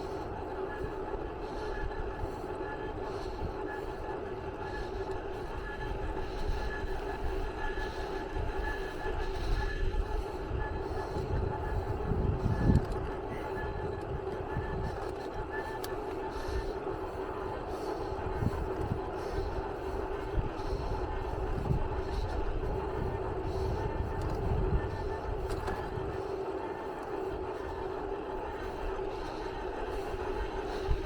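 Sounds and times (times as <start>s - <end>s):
machine rumble and hum: 0.0s - 31.0s.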